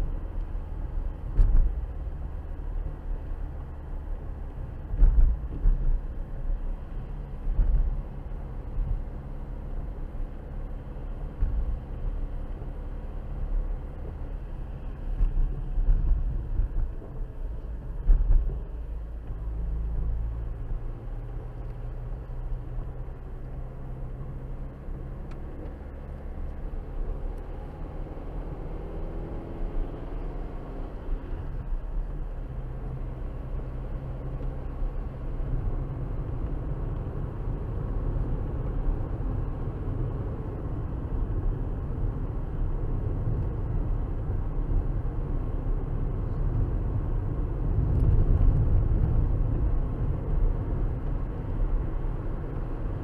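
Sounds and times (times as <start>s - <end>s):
car engine: 0.0s - 53.0s
tyre road rumble: 0.0s - 53.0s.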